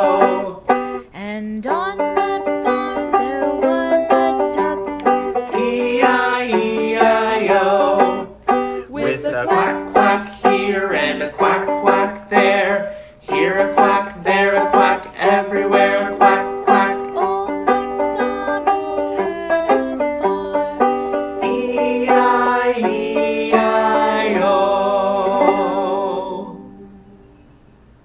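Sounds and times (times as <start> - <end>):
banjo music: 0.0 - 27.2.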